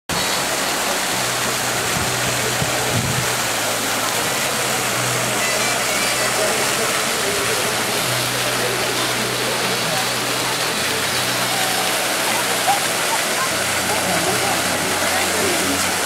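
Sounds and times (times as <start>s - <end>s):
splashing fountain water: 0.1s - 16.0s.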